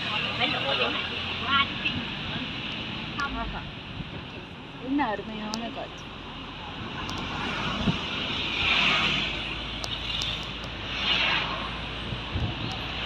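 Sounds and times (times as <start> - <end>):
passing vehicles: 0.0 - 13.0.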